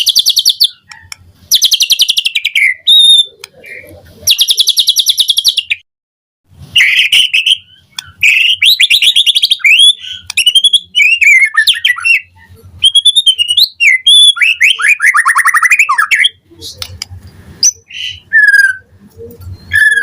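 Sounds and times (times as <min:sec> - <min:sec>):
bird singing whistled phrases and trills: 0:00.0 - 0:05.8, 0:06.8 - 0:16.9, 0:17.6 - 0:20.0.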